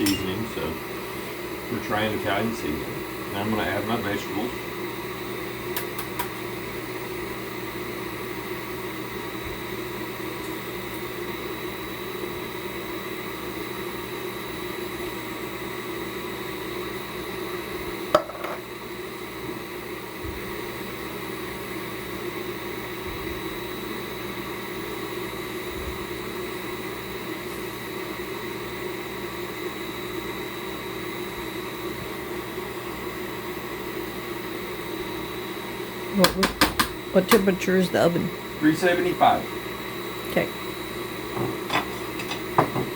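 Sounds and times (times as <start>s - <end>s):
kitchen appliance fan hum: 0.0s - 42.9s.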